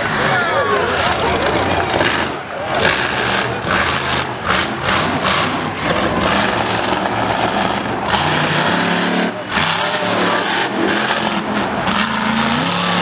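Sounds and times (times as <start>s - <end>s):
vehicle engine running hard: 0.0s - 13.0s.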